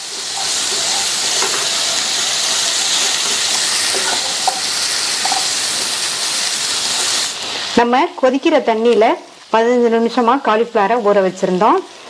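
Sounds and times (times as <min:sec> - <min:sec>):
frying sizzling hiss: 0:00.0 - 0:12.0.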